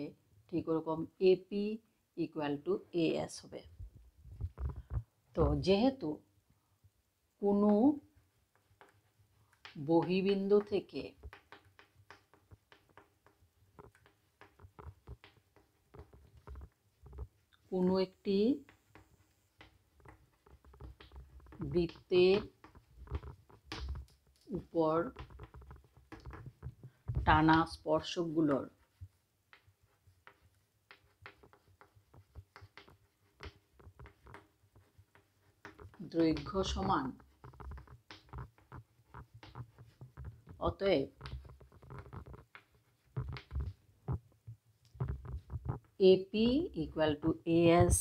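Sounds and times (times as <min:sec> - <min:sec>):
chalk tapping and scraping on blackboard: 0:07.6 - 0:48.0.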